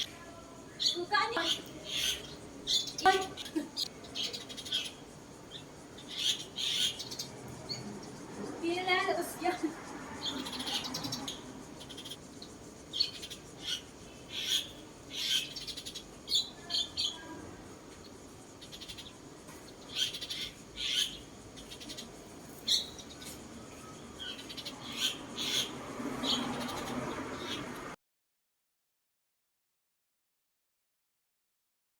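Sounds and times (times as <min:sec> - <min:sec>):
bird chirping: 0:00.0 - 0:27.9.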